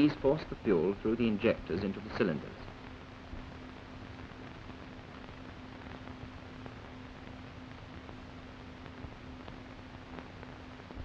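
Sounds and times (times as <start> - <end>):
film soundtrack hiss: 0.0 - 11.0
low constant hum: 0.0 - 11.0.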